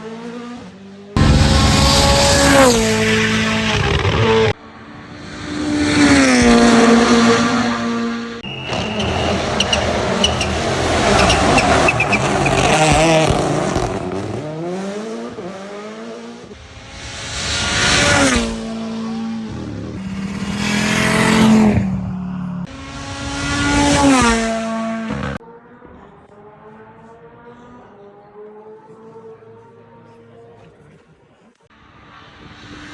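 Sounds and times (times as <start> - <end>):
rally car engines revving: 0.0 - 32.9.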